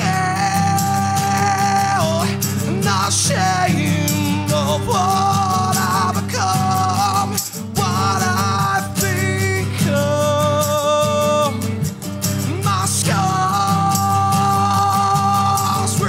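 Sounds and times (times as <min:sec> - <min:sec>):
acoustic guitars strumming: 0:00.0 - 0:16.0
man singing: 0:00.0 - 0:16.0.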